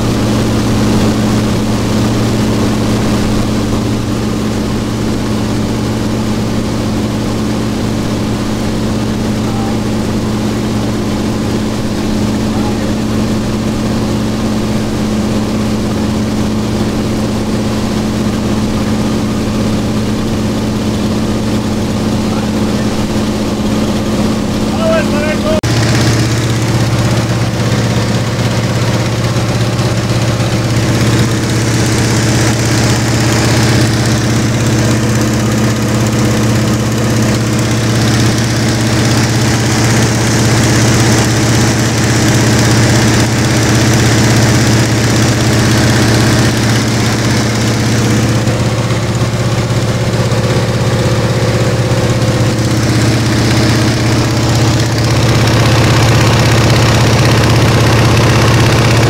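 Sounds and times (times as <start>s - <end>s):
propeller plane engine drone: 0.0s - 59.0s.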